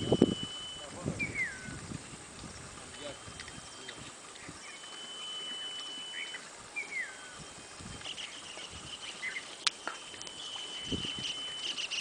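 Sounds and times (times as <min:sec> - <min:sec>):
birds whistling: 0:00.0 - 0:01.9, 0:02.9 - 0:12.0
high-pitched insect whine: 0:00.0 - 0:02.0, 0:02.9 - 0:12.0.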